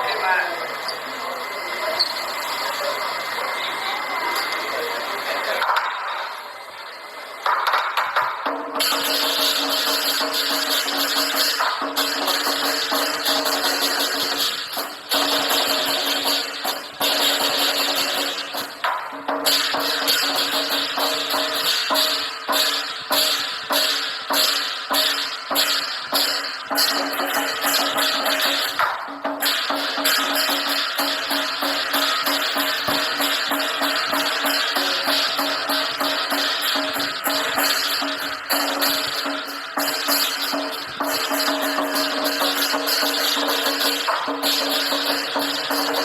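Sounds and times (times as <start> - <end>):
cymbals crashing: 0.0 - 46.0
drum beating: 7.4 - 46.0.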